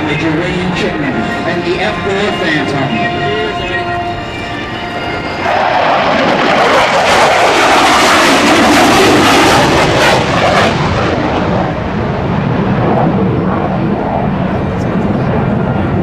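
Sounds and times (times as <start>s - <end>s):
jet roar on low pass: 0.0s - 16.0s.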